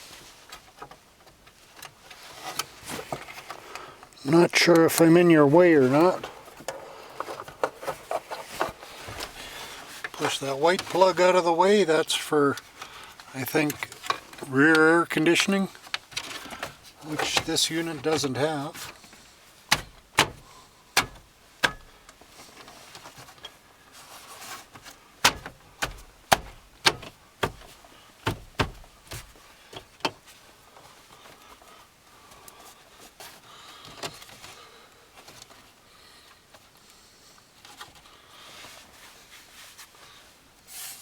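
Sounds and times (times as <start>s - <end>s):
faint rustling: 0.0s - 41.0s.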